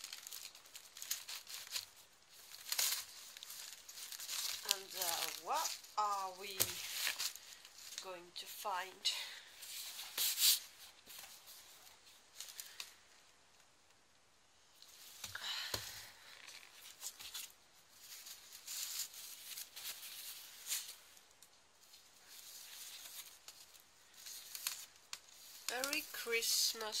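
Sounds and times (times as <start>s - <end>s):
plastic wrap and paper rustling: 0.0s - 13.8s, 14.7s - 27.0s.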